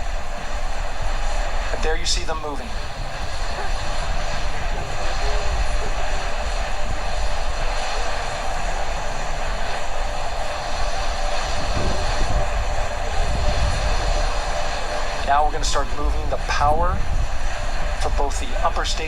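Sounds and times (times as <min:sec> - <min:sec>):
even hiss: 0:00.0 - 0:19.0
low fluctuating rumble: 0:00.0 - 0:19.0.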